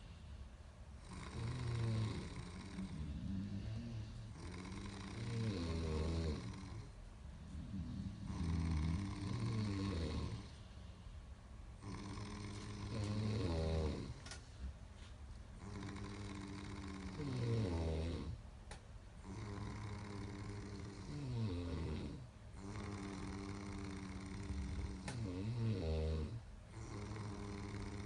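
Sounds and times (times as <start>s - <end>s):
buzzing snore: 1.0s - 10.6s, 11.8s - 14.3s, 15.6s - 18.4s, 19.2s - 28.0s.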